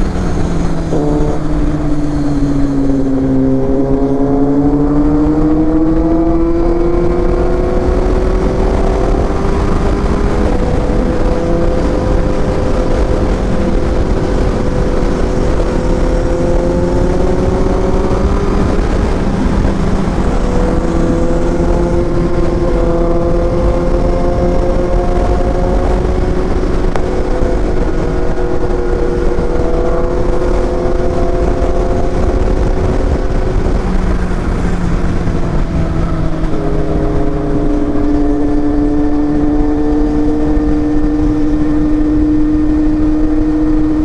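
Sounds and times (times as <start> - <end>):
motorcycle engine running: 0.0 - 44.0
wind rumble on microphone: 0.0 - 44.0.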